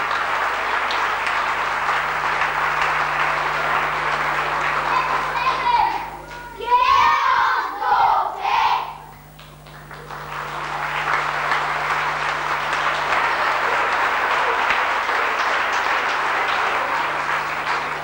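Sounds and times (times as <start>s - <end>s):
audience clapping: 0.0s - 6.7s, 9.0s - 18.0s.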